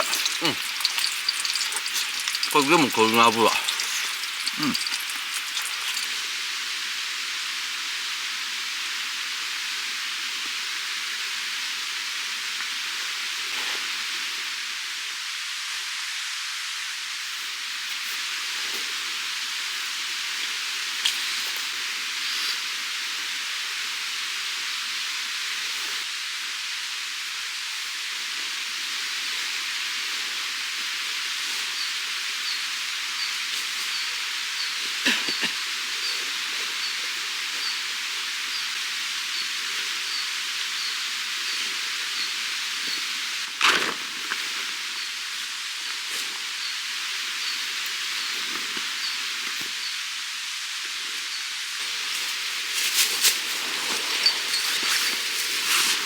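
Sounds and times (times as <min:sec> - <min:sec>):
meat sizzling in a pan: 0:00.0 - 0:56.0
steady hissing noise: 0:00.0 - 0:56.0.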